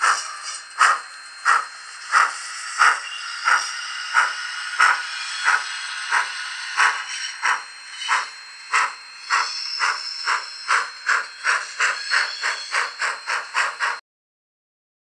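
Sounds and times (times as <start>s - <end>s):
steady steam hiss: 0.0s - 14.0s
steam exhaust chuffs: 0.0s - 14.0s.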